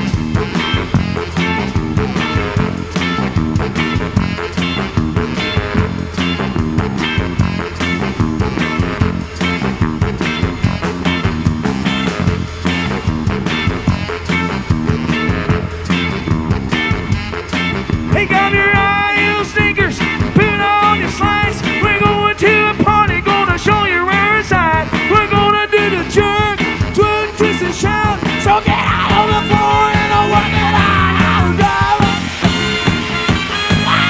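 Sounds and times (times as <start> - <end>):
lead melody with bending notes: 0.0 - 34.0
rockabilly band playing live: 0.0 - 34.0.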